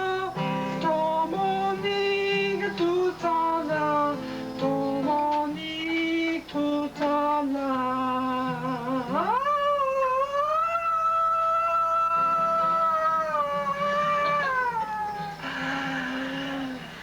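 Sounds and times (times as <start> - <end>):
guitar: 0.0 - 17.0.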